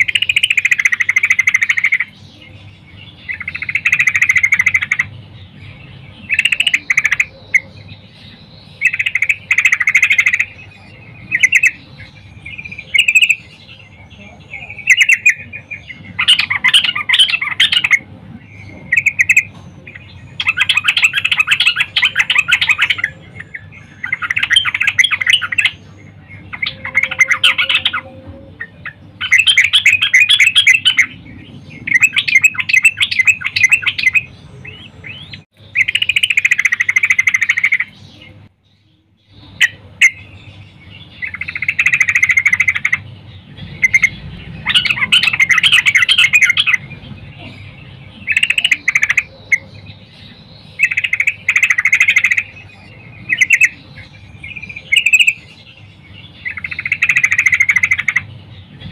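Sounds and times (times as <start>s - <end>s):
bird chattering calls: 0.0s - 38.5s, 39.3s - 58.9s.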